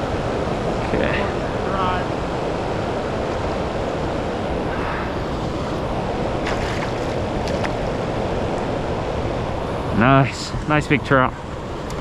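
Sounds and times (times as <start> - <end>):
fast river water rushing: 0.0 - 12.0
wind buffeting microphone: 0.0 - 12.0.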